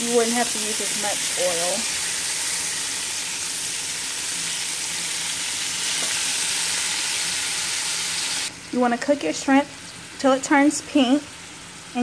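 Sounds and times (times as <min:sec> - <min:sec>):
shrimp sizzling in hot oil: 0:00.0 - 0:12.0.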